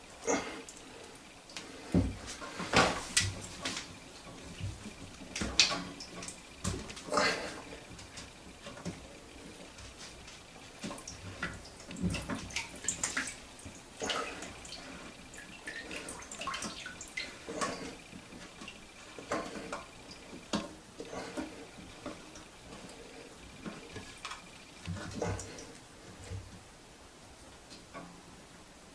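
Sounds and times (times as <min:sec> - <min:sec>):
water dripping in toilet tank: 0:00.1 - 0:26.6.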